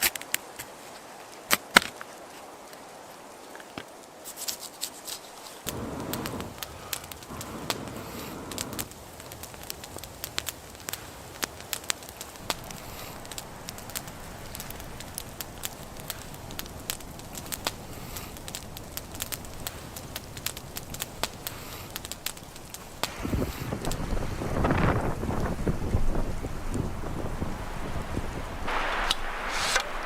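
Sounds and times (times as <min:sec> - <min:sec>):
fire popping and snapping: 0:00.0 - 0:30.0
wood fire crackling: 0:00.0 - 0:30.0
dull rustling noise: 0:02.1 - 0:30.0.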